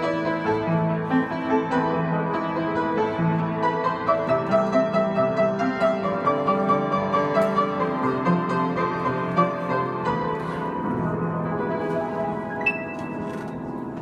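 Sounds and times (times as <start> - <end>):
piano background music: 0.0 - 14.0.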